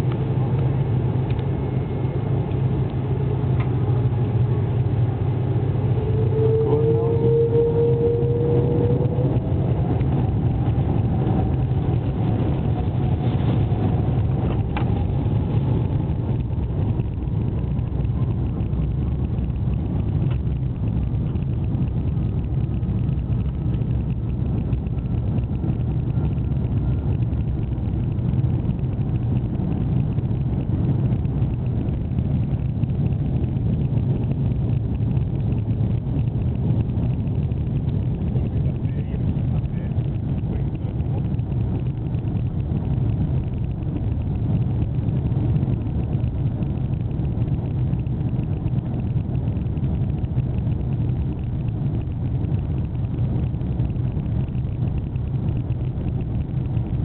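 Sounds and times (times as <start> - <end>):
jet engines roaring: 0.0 - 57.0
rising engine whine: 0.0 - 57.0.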